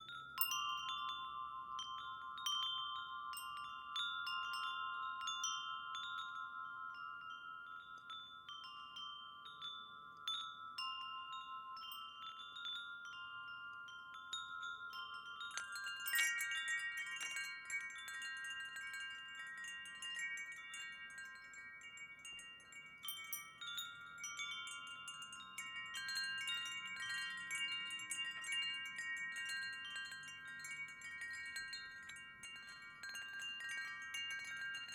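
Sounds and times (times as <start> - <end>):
wind chimes ringing: 0.0 - 34.9.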